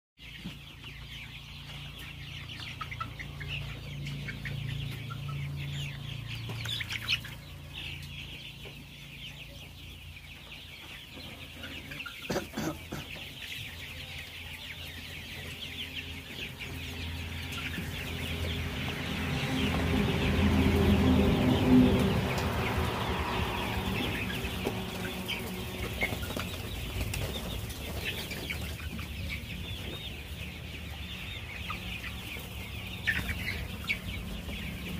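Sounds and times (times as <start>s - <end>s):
chickens clucking and chirping: 0.2s - 34.9s.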